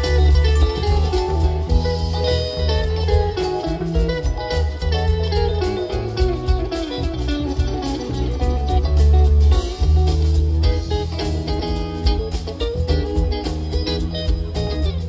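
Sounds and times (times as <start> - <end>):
bass guitar: 0.0 - 15.0
electric guitars: 0.0 - 15.0.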